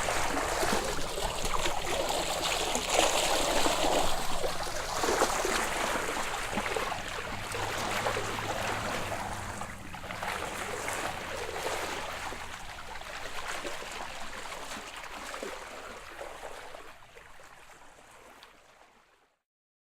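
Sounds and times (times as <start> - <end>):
water sloshing and trickling: 0.0 - 19.2.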